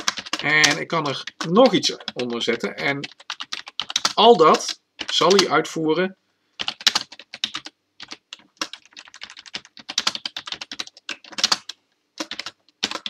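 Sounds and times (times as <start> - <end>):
typing on computer keyboard: 0.0 - 5.5, 6.6 - 13.0.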